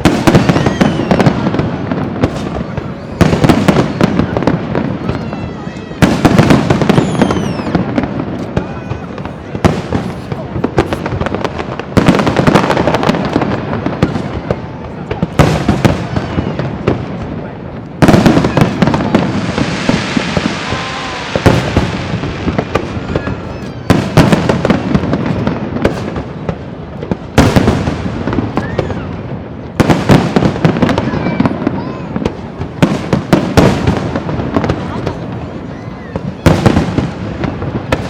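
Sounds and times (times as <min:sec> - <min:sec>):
firework crackling: 0:00.0 - 0:38.0.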